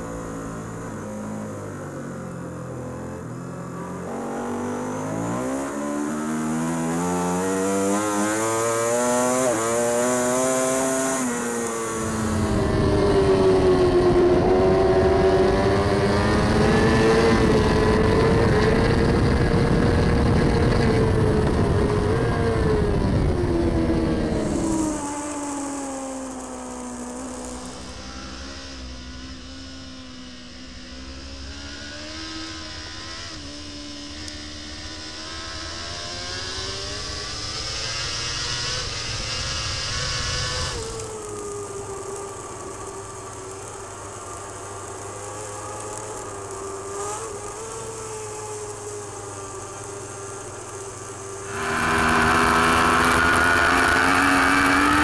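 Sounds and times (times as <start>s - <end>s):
racing motorbike engine: 0.0s - 55.0s.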